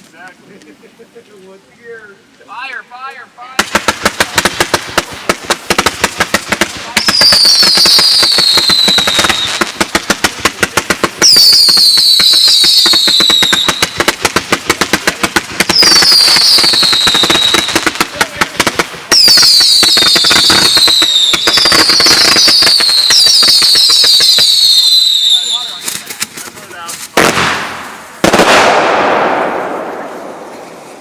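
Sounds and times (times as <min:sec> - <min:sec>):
fireworks cracking and popping: 0:03.1 - 0:31.0
whistling firework shots: 0:03.6 - 0:26.1, 0:27.2 - 0:31.0.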